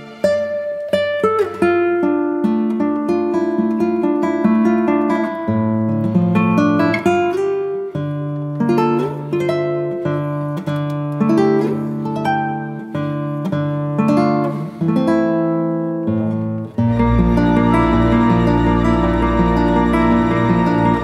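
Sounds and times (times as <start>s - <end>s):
acoustic guitar melody: 0.0s - 21.0s.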